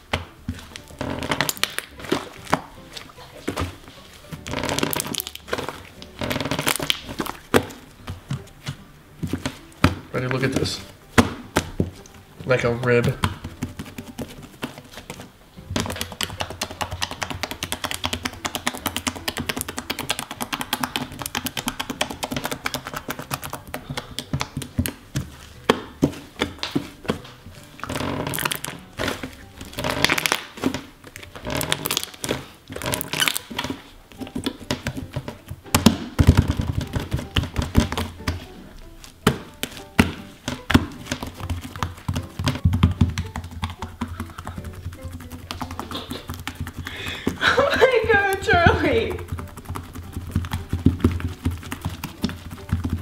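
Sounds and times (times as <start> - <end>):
slime squishing with sticky pops: 0.0 - 53.0.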